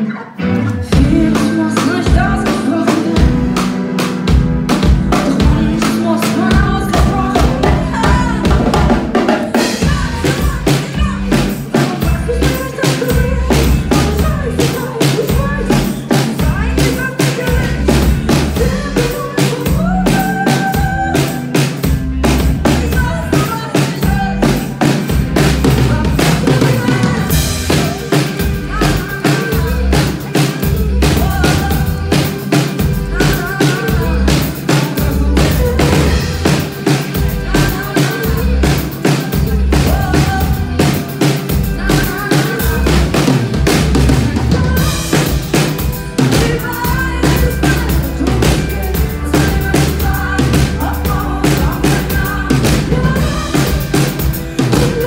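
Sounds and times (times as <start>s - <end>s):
woman singing into a microphone: 0.0s - 3.9s, 4.8s - 55.0s
drum kit: 0.0s - 55.0s
live pop band playing: 0.0s - 55.0s
heavy bass: 0.6s - 55.0s.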